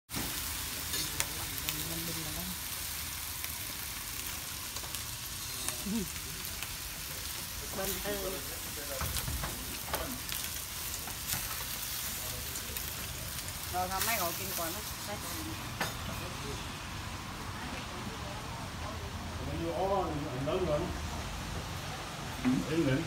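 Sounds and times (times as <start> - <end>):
food sizzling on a grill pan: 0.1 - 18.1, 19.5 - 23.0
faint voices: 3.5 - 23.0.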